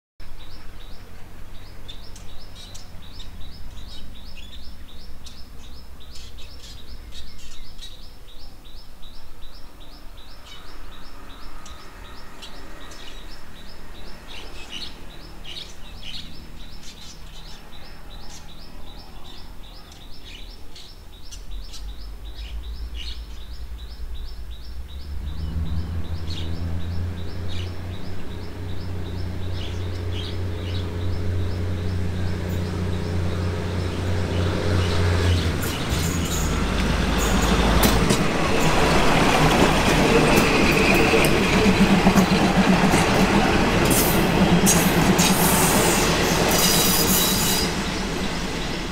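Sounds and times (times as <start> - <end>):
diesel railcar engine rumble: 0.2 - 48.9
bird chirping: 0.4 - 48.9.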